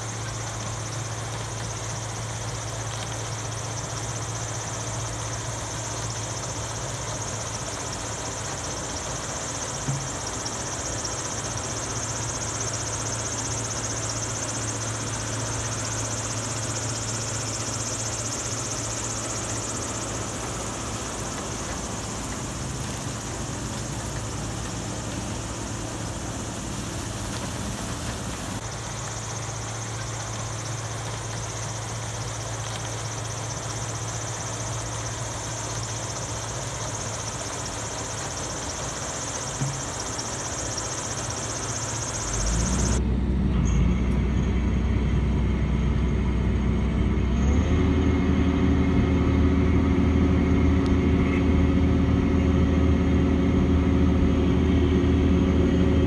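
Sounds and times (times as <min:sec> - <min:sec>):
mechanical hum with high hiss: 0:00.0 - 0:56.0.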